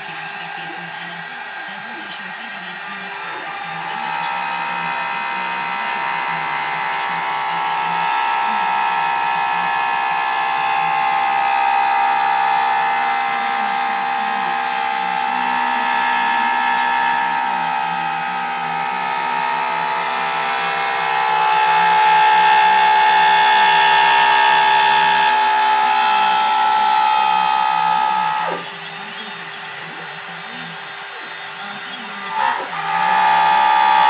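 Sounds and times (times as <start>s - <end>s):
machine motors whining: 0.0s - 34.0s.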